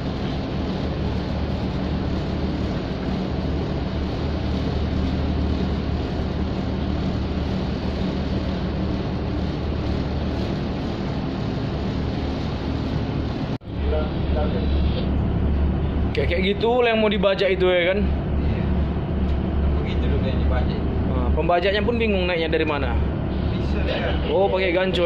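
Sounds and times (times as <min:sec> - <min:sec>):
ship engine droning: 0:00.0 - 0:25.0.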